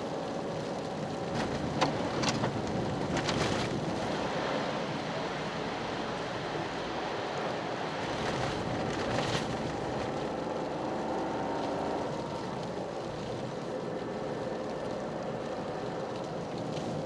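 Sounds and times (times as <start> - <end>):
road and tyre noise: 0.0 - 17.0.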